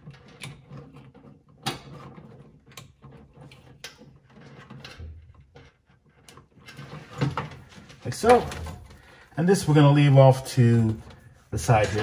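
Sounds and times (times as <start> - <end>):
wires rustling: 0.1 - 12.0.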